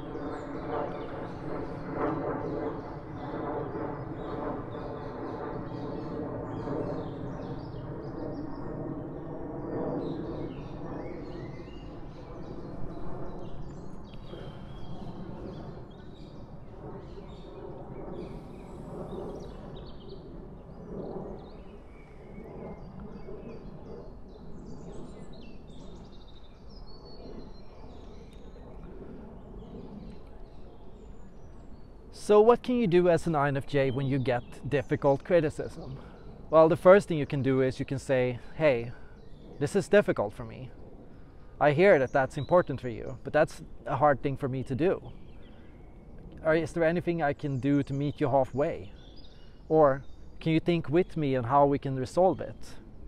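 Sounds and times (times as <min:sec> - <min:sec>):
birds chirping: 0:00.0 - 0:28.8, 0:29.5 - 0:52.8
faint hum: 0:00.0 - 0:53.0.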